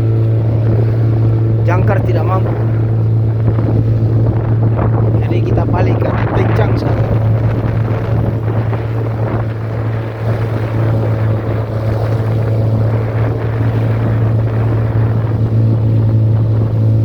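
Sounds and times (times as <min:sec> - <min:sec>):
boat motor droning: 0:00.0 - 0:17.0
wind buffeting microphone: 0:00.0 - 0:17.0.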